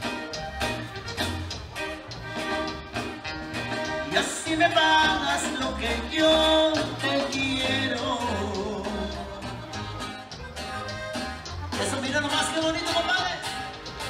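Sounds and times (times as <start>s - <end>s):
latin dance music: 0.0s - 14.0s.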